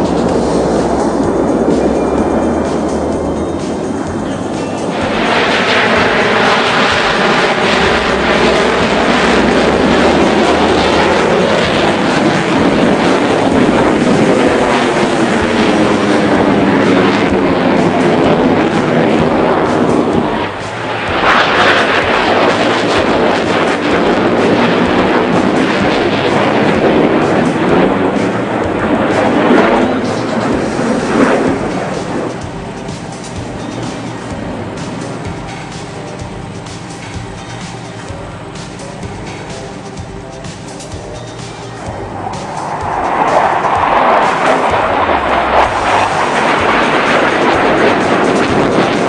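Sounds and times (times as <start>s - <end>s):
jet aircraft passing overhead: 0.0s - 49.0s.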